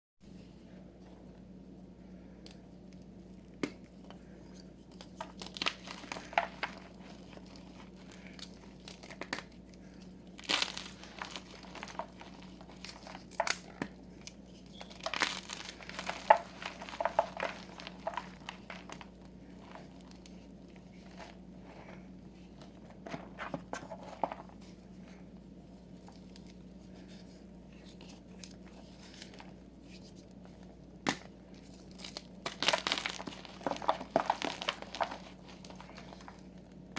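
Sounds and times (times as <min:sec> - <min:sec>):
faint steady hum: 0:00.2 - 0:36.9.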